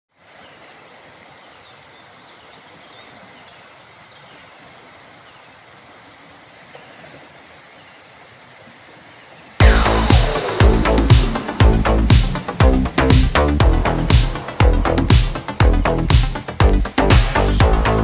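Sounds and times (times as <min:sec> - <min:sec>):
rushing floodwater: 0:00.1 - 0:18.0.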